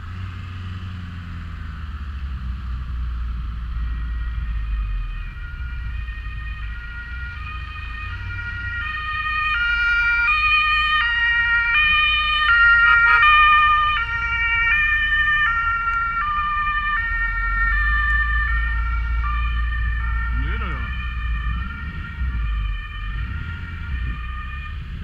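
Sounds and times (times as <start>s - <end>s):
ambulance two-tone siren: 3.5s - 25.0s.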